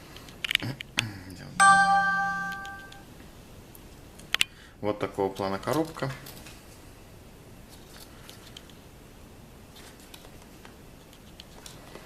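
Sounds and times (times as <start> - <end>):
room tone hiss: 1.1 - 12.0.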